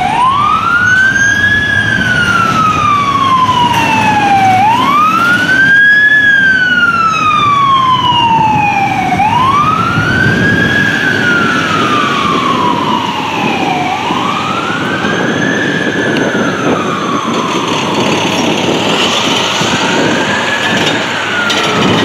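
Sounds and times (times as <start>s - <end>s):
fire engine siren wailing: 0.0s - 22.0s
rumble of engines and traffic: 0.0s - 22.0s.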